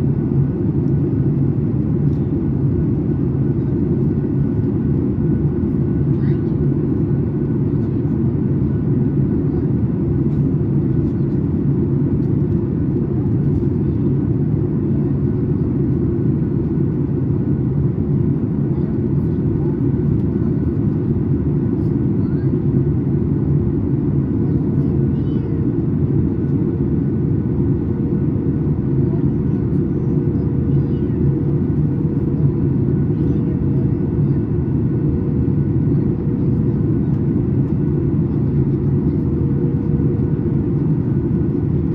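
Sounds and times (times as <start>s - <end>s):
airliner engine rumble: 0.0s - 41.9s.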